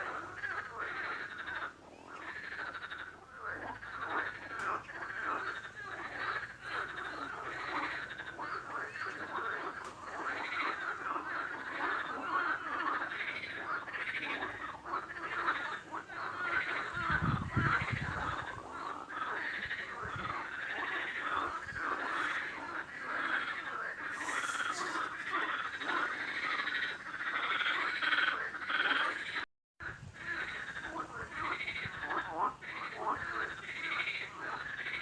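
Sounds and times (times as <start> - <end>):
frogs croaking: 0.0 - 35.0.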